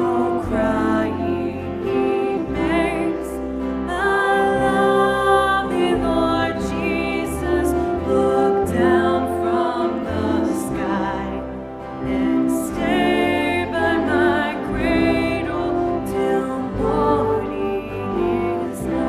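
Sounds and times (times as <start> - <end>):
person singing with vibrato: 0.0 - 19.0
sustained instrumental accompaniment: 0.0 - 19.0.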